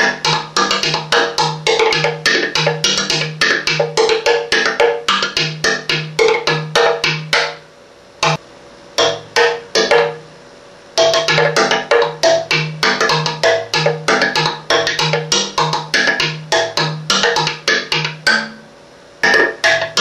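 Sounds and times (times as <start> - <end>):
wooden tongue drum notes: 0.0 - 8.4, 9.0 - 10.3, 11.0 - 20.0.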